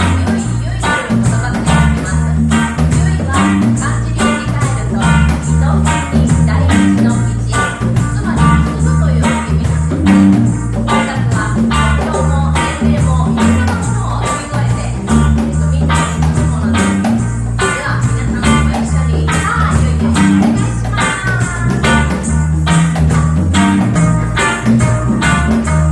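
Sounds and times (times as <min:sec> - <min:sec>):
bass line: 0:00.0 - 0:25.9
live reggae band: 0:00.0 - 0:25.9
plucked strings: 0:00.0 - 0:25.9.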